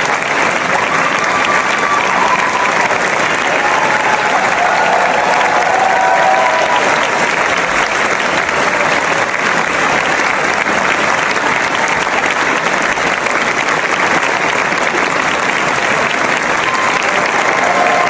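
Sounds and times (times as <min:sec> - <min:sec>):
large crowd applauding: 0:00.0 - 0:18.0.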